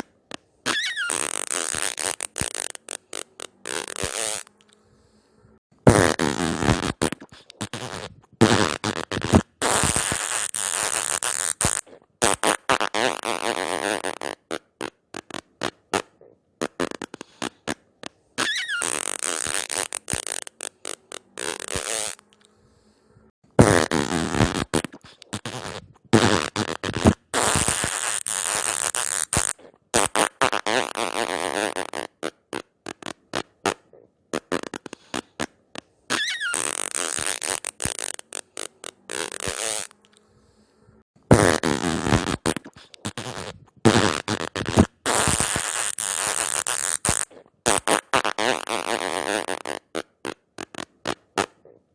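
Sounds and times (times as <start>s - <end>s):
fart sound effects: 0.6s - 4.6s, 5.8s - 17.8s, 18.4s - 22.4s, 23.6s - 40.0s, 41.3s - 51.8s.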